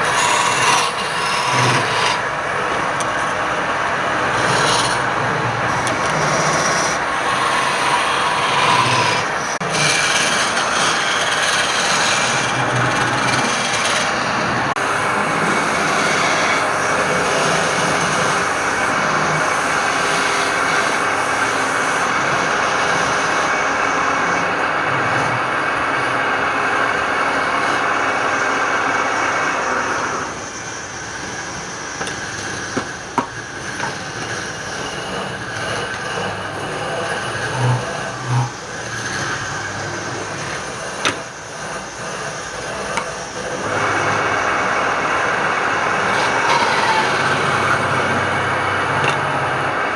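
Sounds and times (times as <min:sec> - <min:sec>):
wood lathe turning wood: 0:00.0 - 0:49.9.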